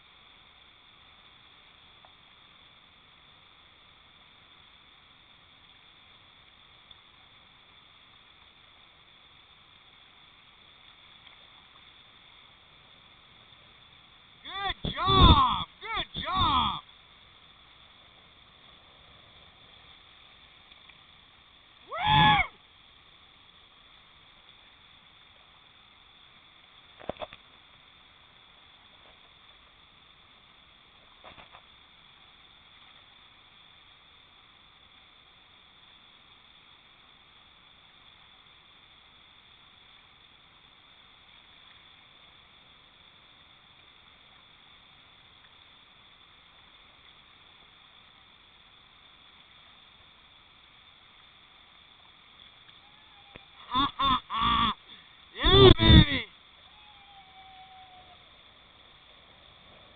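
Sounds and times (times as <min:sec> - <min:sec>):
high hiss: 0:00.0 - 0:59.9.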